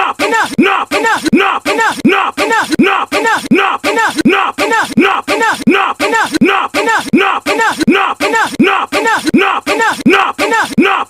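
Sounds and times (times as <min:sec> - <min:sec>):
person yelling: 0:00.0 - 0:11.0.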